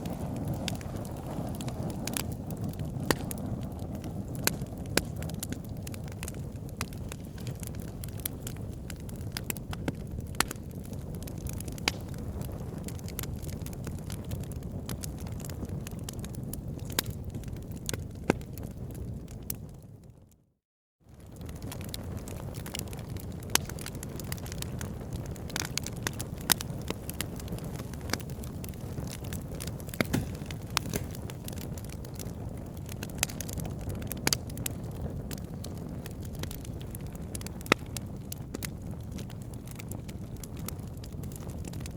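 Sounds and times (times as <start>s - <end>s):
campfire crackling and popping: 0.0s - 20.0s, 21.1s - 41.9s.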